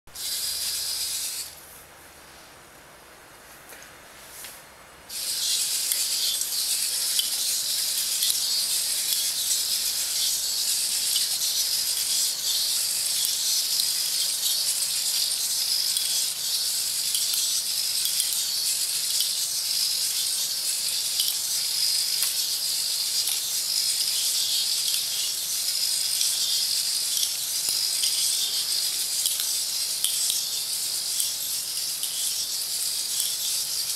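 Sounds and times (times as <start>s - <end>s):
robot servos hissing: 0.1s - 1.6s, 5.1s - 33.9s.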